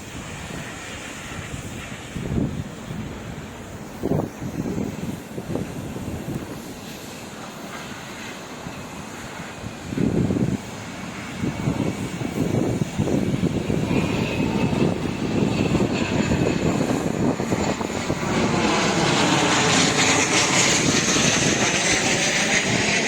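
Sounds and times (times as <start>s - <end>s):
aircraft passing overhead: 0.0s - 23.0s
wind buffeting microphone: 0.0s - 23.0s.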